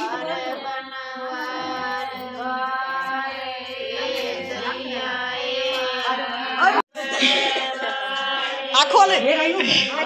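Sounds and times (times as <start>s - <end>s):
women singing folk song: 0.0s - 8.7s.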